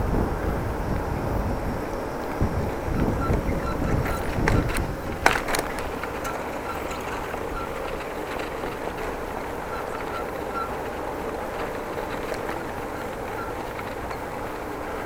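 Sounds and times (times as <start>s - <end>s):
tyre and wind noise: 0.0s - 15.0s
bicycle wheel squealing chirps: 2.7s - 15.0s.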